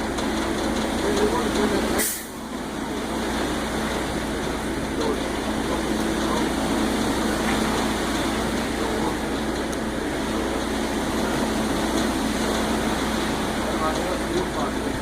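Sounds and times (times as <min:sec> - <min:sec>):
diesel truck engine humming: 0:00.0 - 0:15.0.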